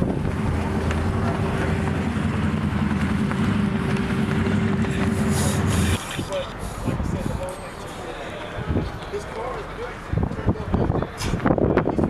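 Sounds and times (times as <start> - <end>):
wind on microphone: 0.0 - 7.5, 8.6 - 9.0, 10.0 - 12.0
vehicle engine running: 0.0 - 10.3.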